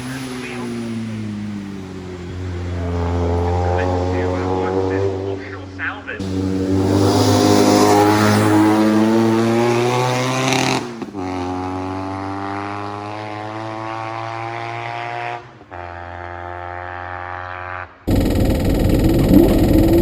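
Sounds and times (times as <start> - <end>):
engine accelerating: 0.0 - 20.0.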